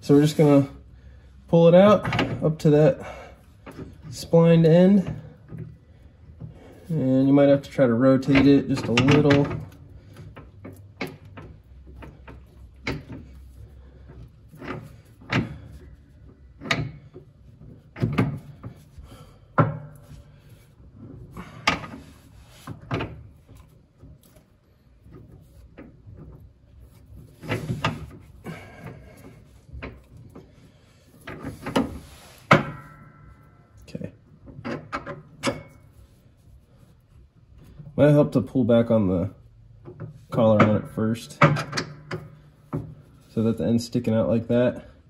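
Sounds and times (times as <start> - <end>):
metal clunks and knocks: 1.8 - 36.0, 39.8 - 43.4.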